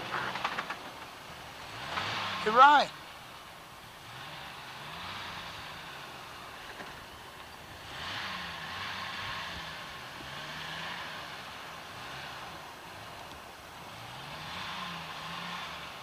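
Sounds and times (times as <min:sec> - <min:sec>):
off-road engines labouring: 0:00.0 - 0:16.0.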